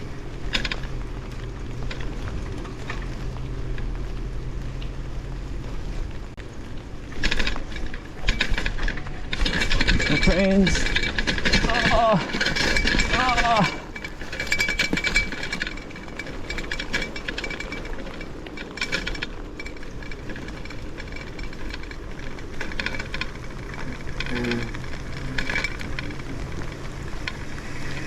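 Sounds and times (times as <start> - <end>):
bicycle rattling: 0.0 - 28.0
low hum: 0.0 - 28.0
wind and road noise: 0.0 - 28.0.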